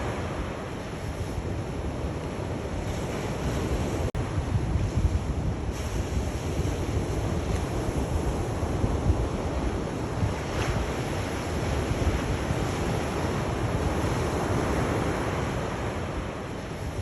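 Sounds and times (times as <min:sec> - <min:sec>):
ocean waves washing in: 0:00.0 - 0:17.0
wind rumble on microphone: 0:00.0 - 0:17.0.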